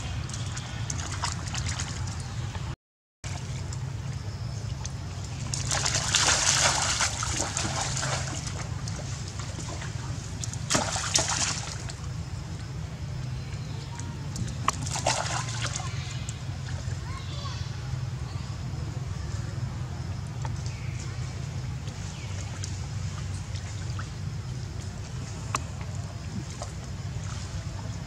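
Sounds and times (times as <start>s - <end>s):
water sloshing and splashing: 0.0s - 17.1s, 20.0s - 28.0s.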